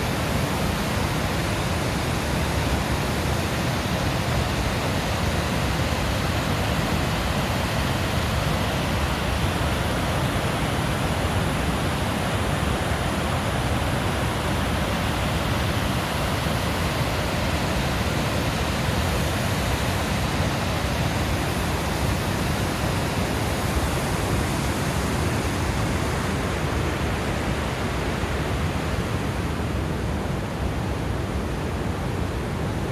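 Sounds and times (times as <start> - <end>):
falling water roaring: 0.0 - 32.9.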